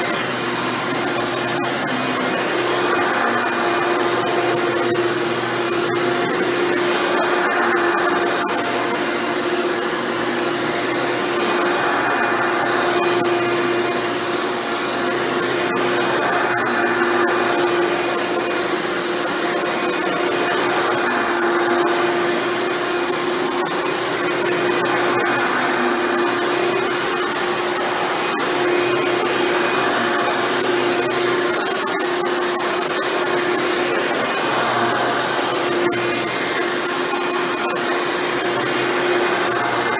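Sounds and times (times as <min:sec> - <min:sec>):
upright vacuum cleaner on carpet: 0:00.0 - 0:39.9.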